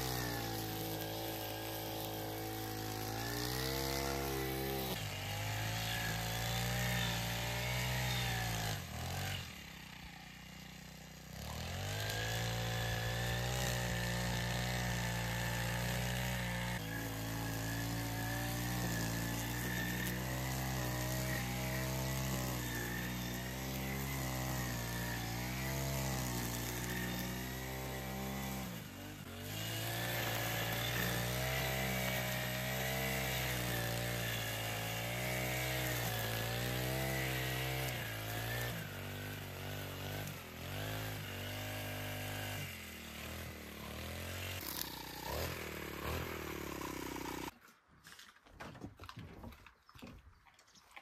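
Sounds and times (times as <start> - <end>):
engine revving: 0.0 - 47.5.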